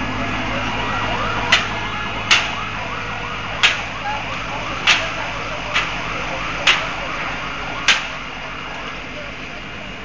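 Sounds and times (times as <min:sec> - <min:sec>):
emergency sirens yelping: 0:00.0 - 0:10.0
low engine hum: 0:00.0 - 0:10.0.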